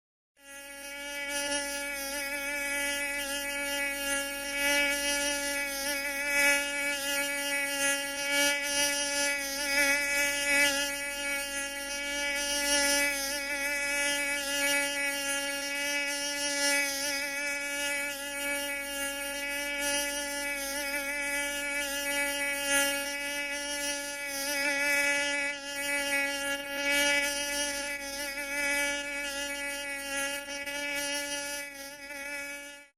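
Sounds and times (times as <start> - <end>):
mosquito whine: 0.4 - 32.9.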